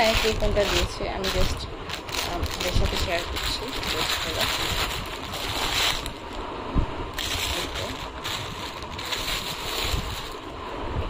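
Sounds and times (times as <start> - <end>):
plastic packaging crinkling: 0.0 - 6.4, 7.2 - 10.5.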